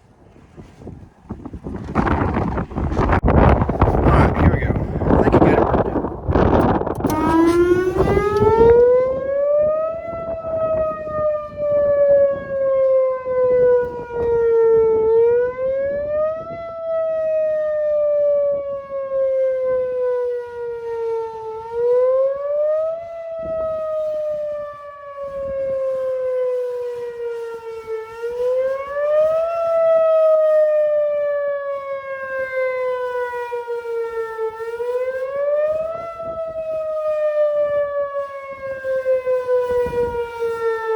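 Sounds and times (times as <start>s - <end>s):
tornado siren winding: 5.0s - 17.8s, 19.2s - 40.9s.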